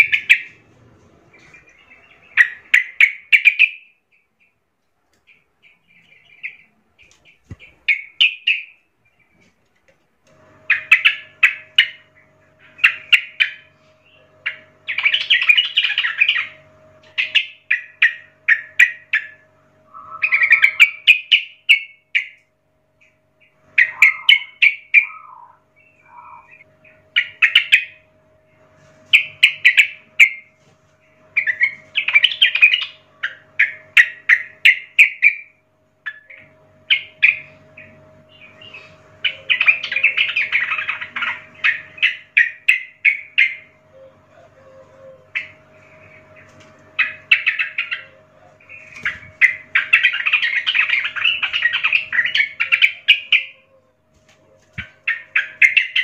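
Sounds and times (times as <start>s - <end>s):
bird chattering song: 0.0s - 4.6s, 5.2s - 9.4s, 10.6s - 53.8s, 54.4s - 56.0s.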